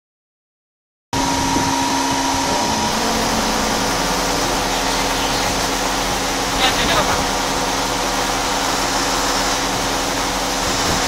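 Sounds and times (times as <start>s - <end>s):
machining centre whirring: 1.2s - 11.0s.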